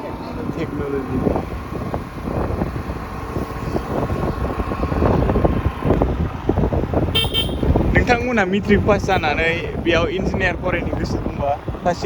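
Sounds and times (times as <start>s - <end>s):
vehicle road and engine rumble: 0.0s - 12.0s
wind buffeting microphone: 0.0s - 12.0s.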